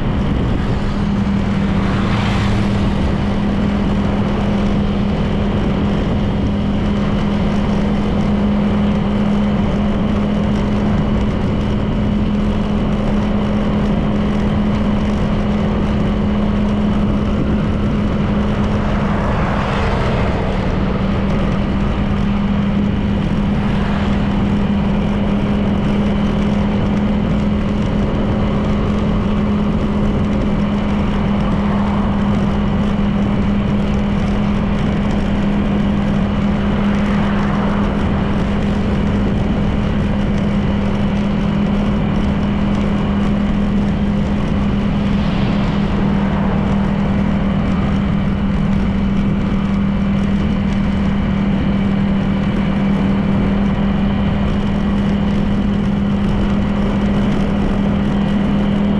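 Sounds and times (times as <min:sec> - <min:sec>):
scooter engine droning: 0:00.0 - 0:58.9
wind and road noise: 0:00.0 - 0:58.9.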